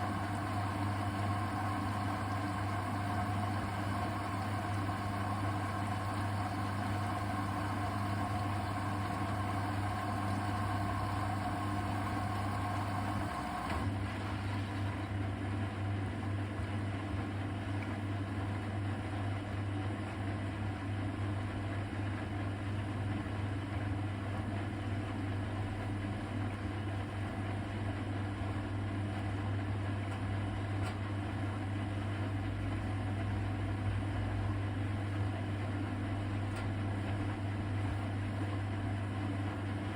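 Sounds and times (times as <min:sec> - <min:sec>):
washing machine hum: 0:00.0 - 0:39.9
washing machine whine: 0:00.0 - 0:39.9.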